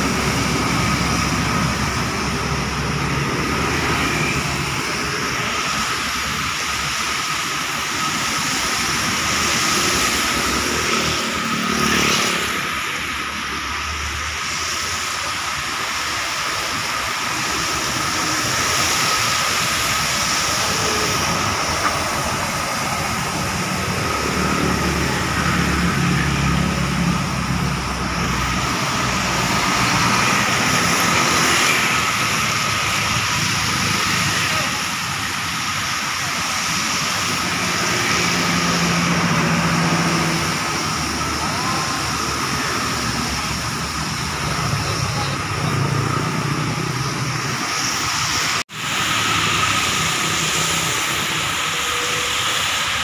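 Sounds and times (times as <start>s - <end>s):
tyre hiss on wet road: 0.0s - 53.0s
vehicle engines: 0.0s - 53.0s.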